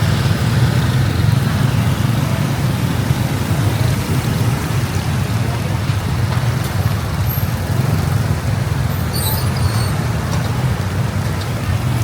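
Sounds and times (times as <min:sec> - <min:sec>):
motorbike and traffic road noise: 0:00.0 - 0:12.0.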